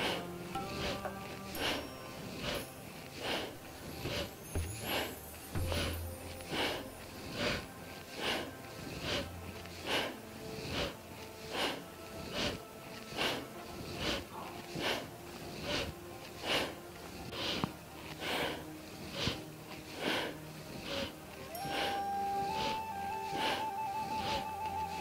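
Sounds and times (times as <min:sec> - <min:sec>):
faint sustained music tones: 0:00.0 - 0:25.0
forceful breathing through nose: 0:00.0 - 0:25.0.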